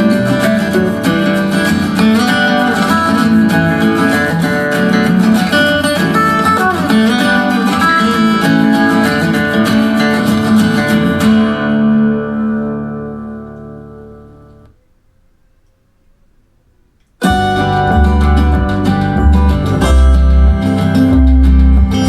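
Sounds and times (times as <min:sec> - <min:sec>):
guitar track with heavy bass: 0:00.0 - 0:14.7, 0:17.2 - 0:22.0
guitar music over soundbar: 0:00.0 - 0:14.8, 0:17.2 - 0:22.0.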